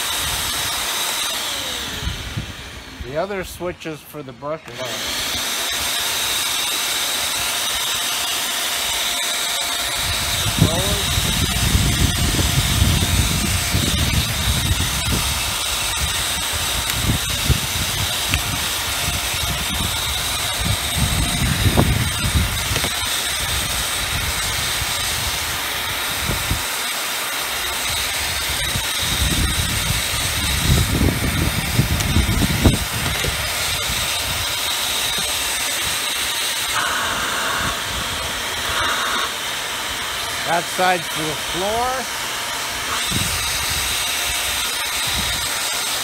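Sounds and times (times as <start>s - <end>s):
vacuum motor whining: 0.0s - 3.0s, 4.6s - 46.0s.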